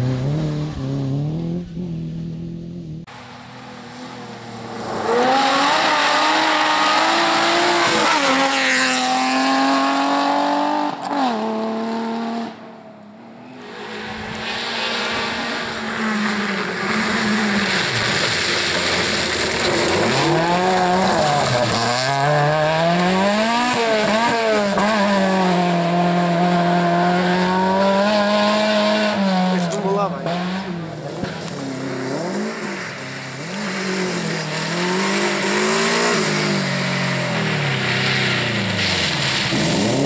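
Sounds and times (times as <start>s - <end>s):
rally car engine at high revs: 0.0s - 3.3s, 3.9s - 12.7s, 13.6s - 40.0s
another rally car engine: 0.0s - 40.0s.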